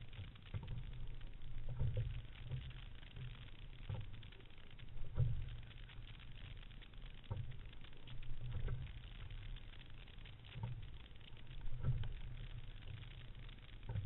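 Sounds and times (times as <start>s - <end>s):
light water splashing: 0.0s - 14.0s
water rumbling along hull: 0.0s - 14.0s.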